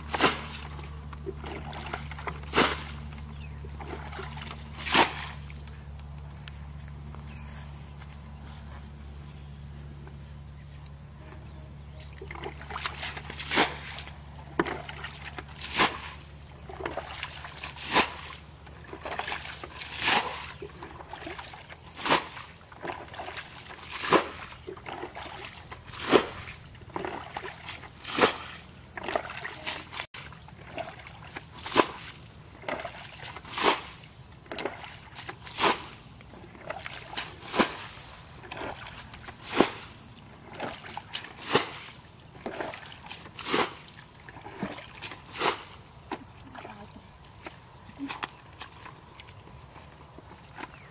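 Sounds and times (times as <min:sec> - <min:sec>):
water splashing: 0:00.0 - 0:05.7, 0:12.1 - 0:50.9
bucket sloshing water: 0:00.0 - 0:05.9, 0:11.5 - 0:50.9.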